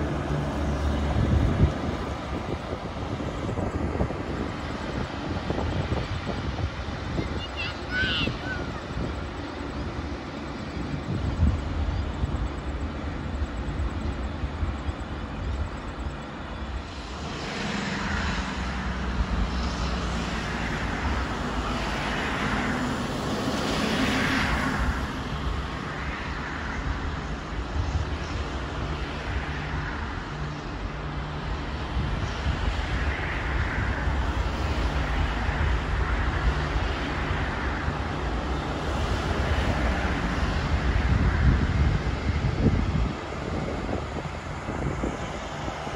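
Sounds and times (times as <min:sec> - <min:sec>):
train diesel engines droning: 0:00.0 - 0:45.9.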